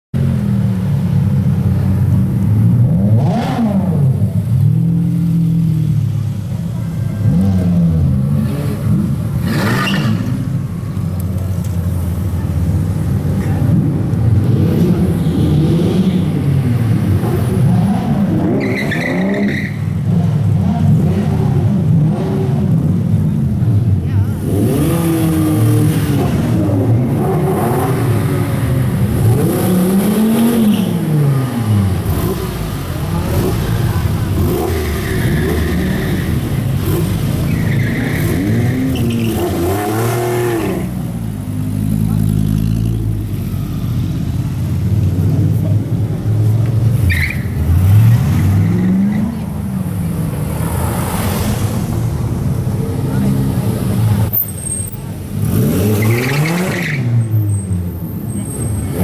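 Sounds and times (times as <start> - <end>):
sports car engines revving: 0.2 - 59.0.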